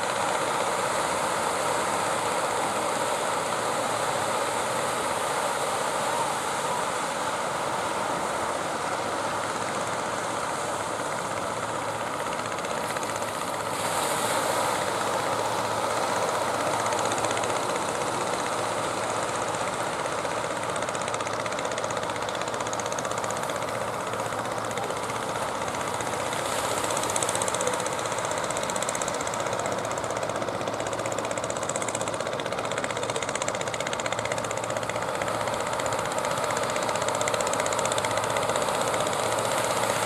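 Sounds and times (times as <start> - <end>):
boat engine running: 0.0 - 40.0
waves breaking: 0.0 - 40.0.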